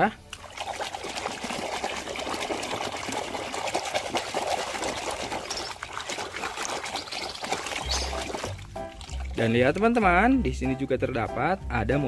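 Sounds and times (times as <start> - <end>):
water trickling and splashing: 0.0 - 10.3.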